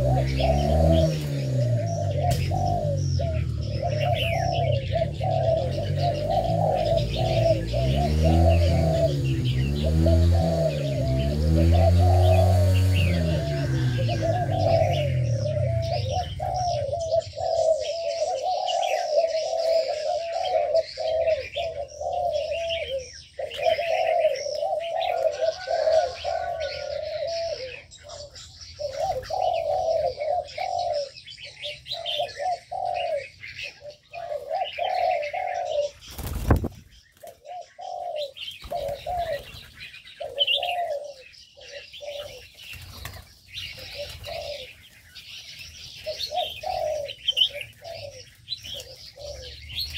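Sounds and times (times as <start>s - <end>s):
doves cooing: 0.0s - 49.9s
small birds chirping: 0.0s - 49.9s.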